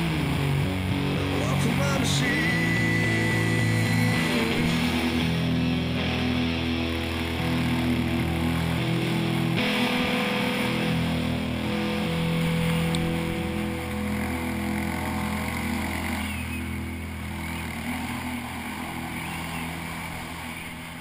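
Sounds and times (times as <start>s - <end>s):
rock music with guitar chords: 0.0s - 21.0s.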